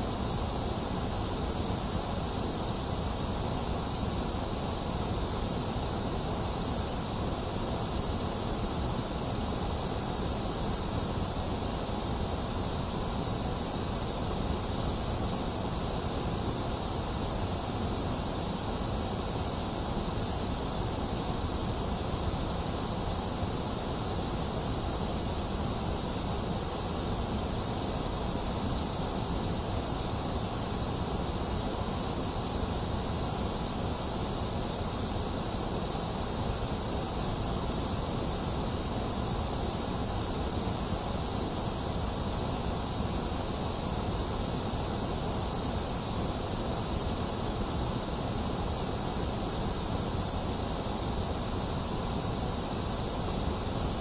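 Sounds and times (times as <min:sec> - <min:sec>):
rain hiss: 0:00.0 - 0:54.0.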